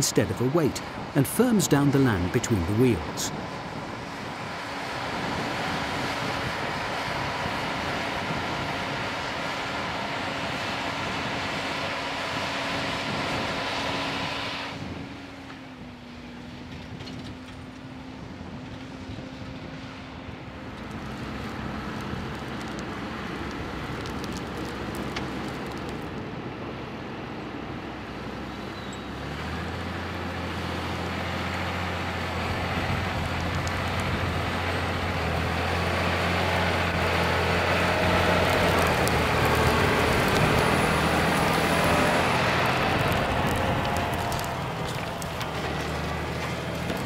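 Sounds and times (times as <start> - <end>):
tractor diesel engines under load: 0.0 - 47.0.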